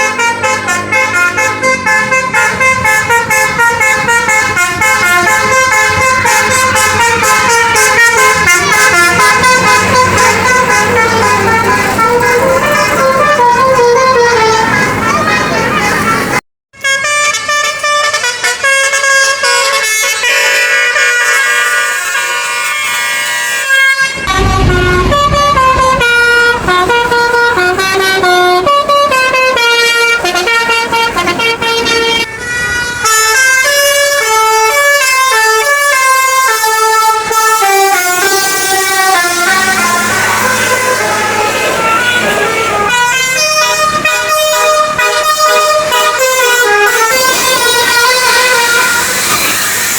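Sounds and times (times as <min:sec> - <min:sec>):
multi-tone musical bus horn: 0:00.0 - 0:49.9.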